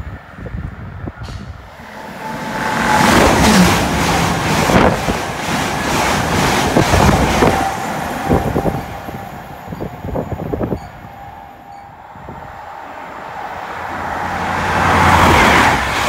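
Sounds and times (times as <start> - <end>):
train passing at speed: 0.0 - 16.0
wheels rattling on rail: 1.2 - 16.0.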